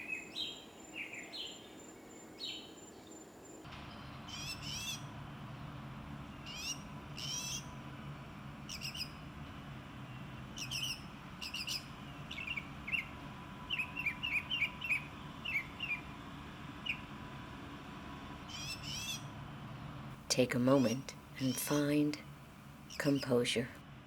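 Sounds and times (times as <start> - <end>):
songbirds chirping: 0.0 - 17.2, 18.1 - 23.8
steady low hum: 0.0 - 24.0.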